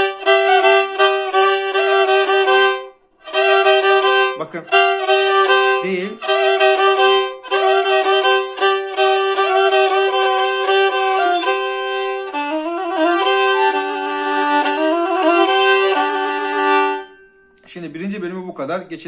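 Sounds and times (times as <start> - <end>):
bowed fiddle melody with drone: 0.0 - 17.6.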